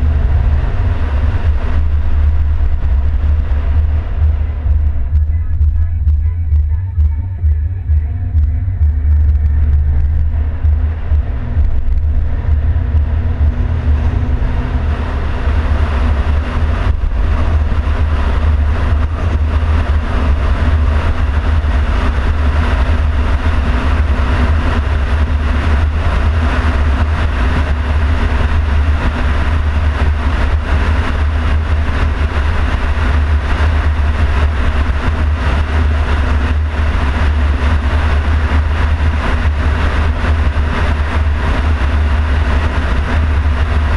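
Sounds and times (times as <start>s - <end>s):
car driving road and wind noise: 0.0s - 43.9s.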